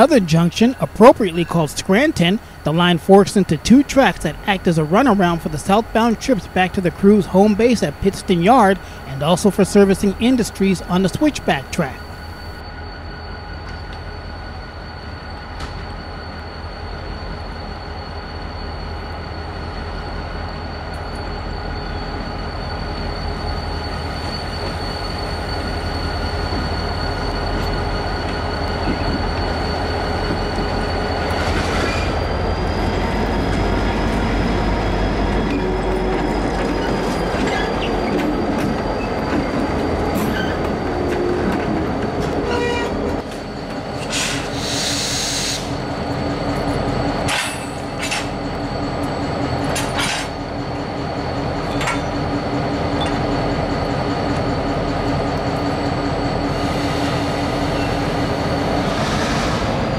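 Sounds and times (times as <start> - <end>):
diesel locomotives rumbling: 0.0 - 59.9
high wheel squeal: 0.0 - 59.9.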